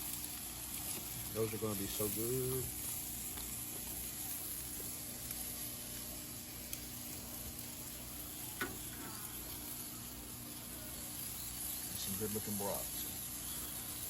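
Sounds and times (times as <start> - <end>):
sausages sizzling on a grill: 0.0 - 14.0.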